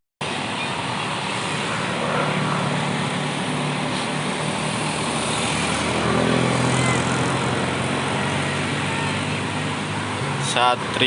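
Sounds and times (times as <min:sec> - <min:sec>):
bus engine droning: 0:00.2 - 0:11.0.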